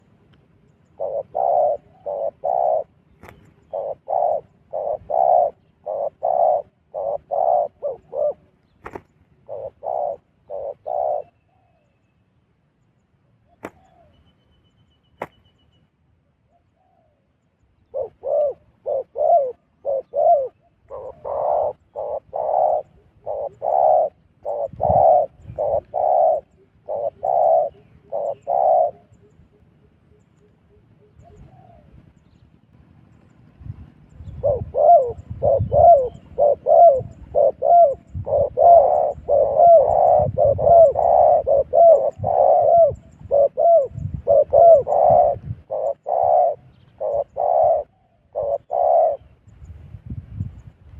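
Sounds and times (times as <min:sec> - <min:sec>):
dove cooing: 0:00.8 - 0:11.8, 0:13.5 - 0:14.1, 0:17.8 - 0:32.0, 0:34.2 - 0:49.5.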